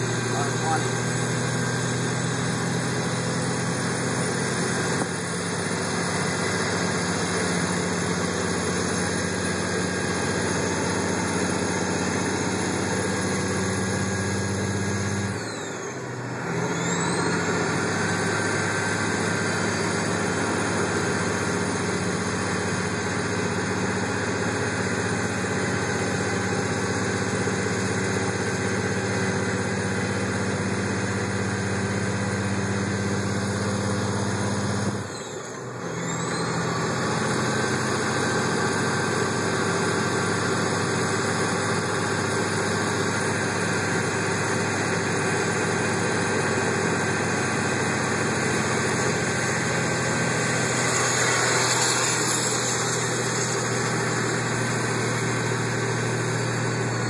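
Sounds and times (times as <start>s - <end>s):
diesel truck engine pulling: 0.0s - 57.0s.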